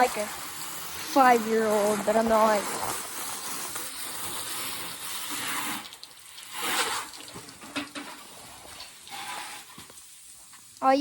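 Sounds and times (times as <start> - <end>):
water spraying onto lawnmower: 0.0 - 11.0.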